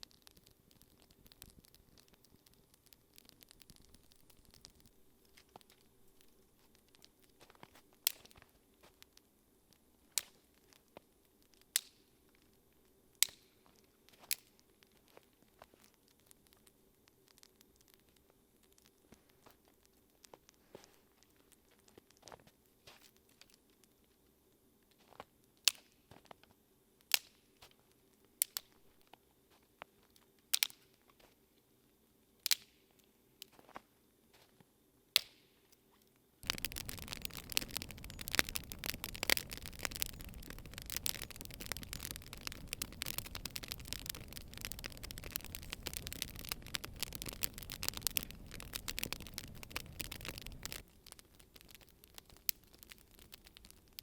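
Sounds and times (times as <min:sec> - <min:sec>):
wood fire popping: 0:00.0 - 0:24.3, 0:25.1 - 0:31.0, 0:32.4 - 0:32.8, 0:35.2 - 0:35.6, 0:36.4 - 0:54.0
wood fire crackling: 0:00.0 - 0:26.4, 0:27.0 - 0:31.2, 0:32.4 - 0:33.8, 0:36.4 - 0:54.0.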